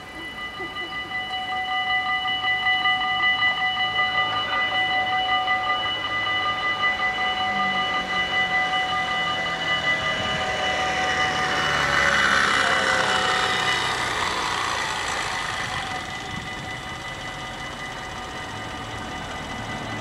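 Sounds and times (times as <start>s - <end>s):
level-crossing warning bells: 0.0s - 20.0s.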